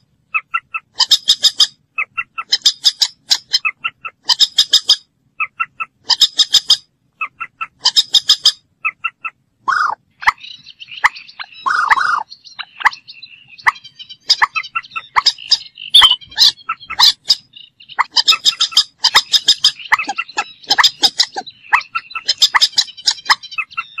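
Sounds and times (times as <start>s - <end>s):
moorhen calling: 0.0s - 24.0s.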